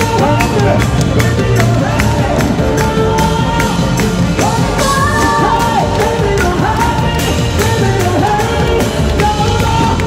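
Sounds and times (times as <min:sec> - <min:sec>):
drums steady beat: 0:00.0 - 0:10.0
person singing: 0:00.0 - 0:10.0.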